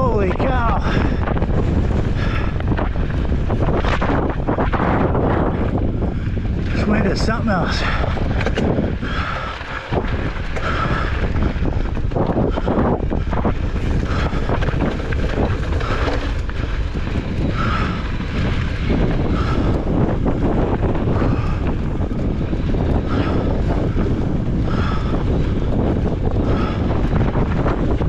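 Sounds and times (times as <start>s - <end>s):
mountain bike rattling: 0.0s - 28.0s
wind buffeting microphone: 0.0s - 28.0s.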